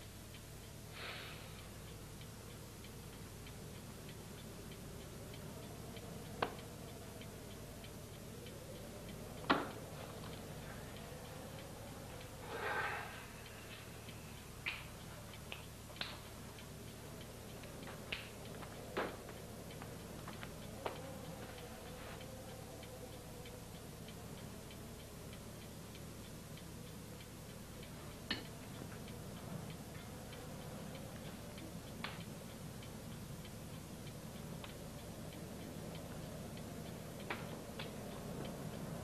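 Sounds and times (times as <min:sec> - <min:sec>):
clock ticking: 0:00.0 - 0:39.0.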